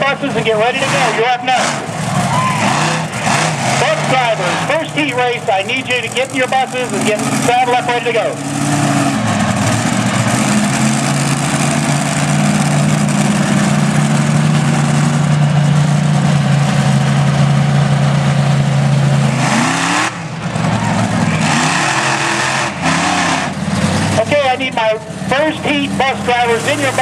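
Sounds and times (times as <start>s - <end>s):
monster truck engine revving: 0.0s - 27.0s.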